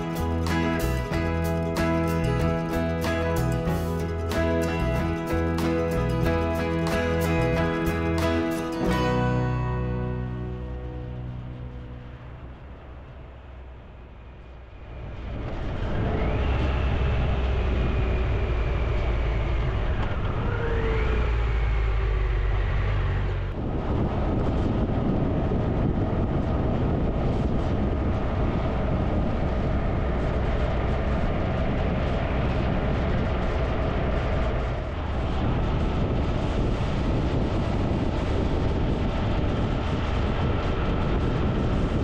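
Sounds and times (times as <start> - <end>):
wind and road noise: 0.0 - 42.0.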